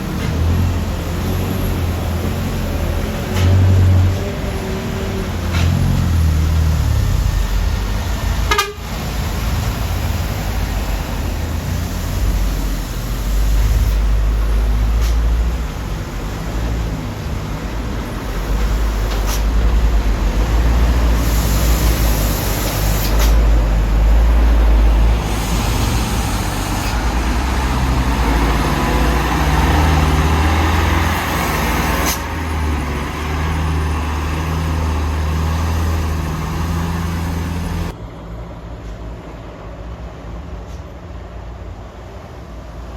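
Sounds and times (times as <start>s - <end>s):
truck diesel engine under load: 0.0s - 38.0s.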